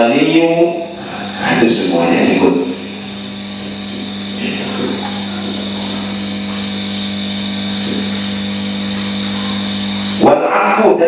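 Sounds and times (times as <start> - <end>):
crickets chirping: 0.0 - 11.0
low electrical hum: 0.0 - 11.0.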